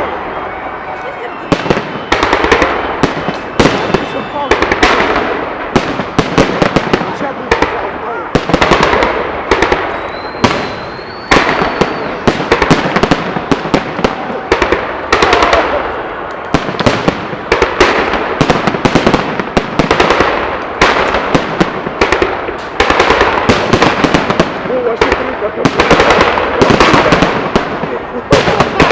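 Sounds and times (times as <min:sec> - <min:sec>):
fireworks crackling and popping: 0:00.0 - 0:28.9.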